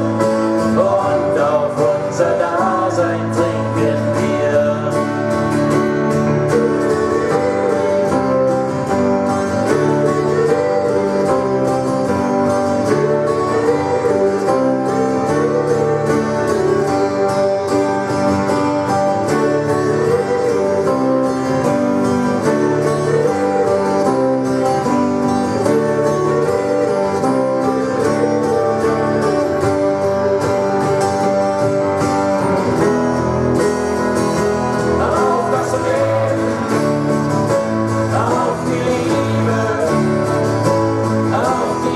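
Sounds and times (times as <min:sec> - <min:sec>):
live band with guitars: 0:00.0 - 0:41.9.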